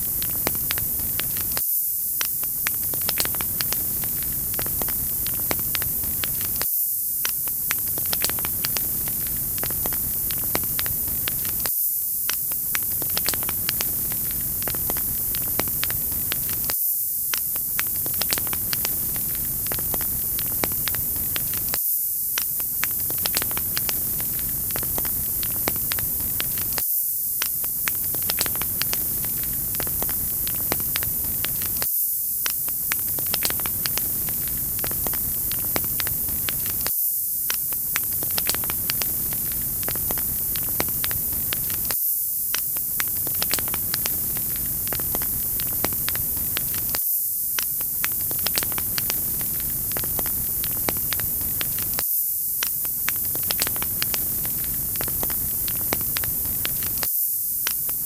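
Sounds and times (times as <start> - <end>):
wood fire crackling: 0.0 - 1.6, 2.2 - 6.6, 7.3 - 11.7, 12.3 - 16.7, 17.3 - 21.8, 22.4 - 26.8, 27.4 - 36.9, 37.5 - 47.0, 47.6 - 52.0, 52.6 - 57.1.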